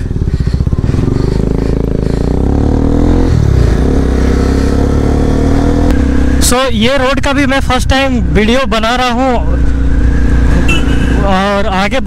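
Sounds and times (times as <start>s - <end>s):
motorcycle engine accelerating: 0.0s - 11.7s.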